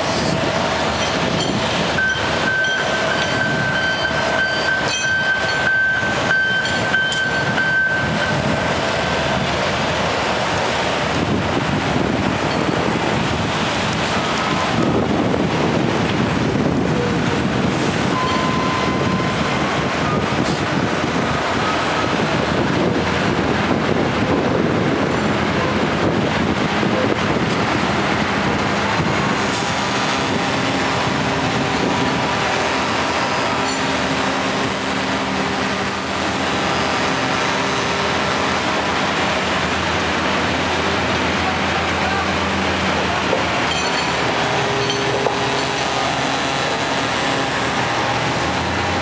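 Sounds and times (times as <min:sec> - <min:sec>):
city traffic noise: 0:00.0 - 0:49.0
engine drone: 0:00.0 - 0:49.0.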